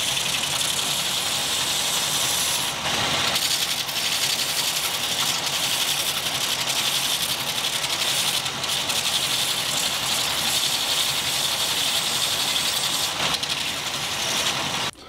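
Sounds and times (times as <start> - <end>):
belt grinder sanding wood: 0.0 - 14.9.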